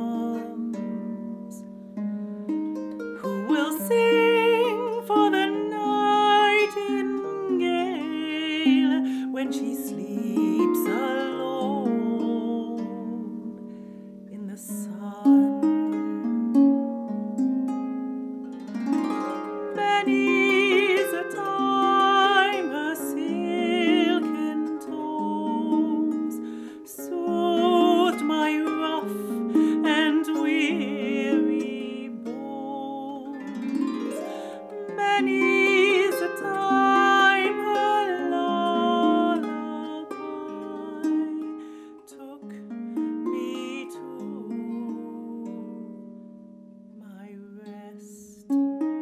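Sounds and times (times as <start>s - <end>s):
woman singing with vibrato: 0.0s - 1.6s, 3.2s - 13.6s, 14.3s - 16.2s, 18.9s - 46.0s, 47.0s - 48.6s
harp playing: 0.0s - 49.0s.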